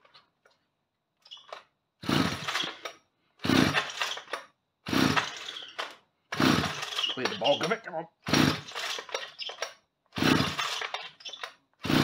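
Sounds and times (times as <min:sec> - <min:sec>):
recoil starter pulls: 0:01.2 - 0:12.0
chainsaw engine cranking: 0:01.3 - 0:12.0.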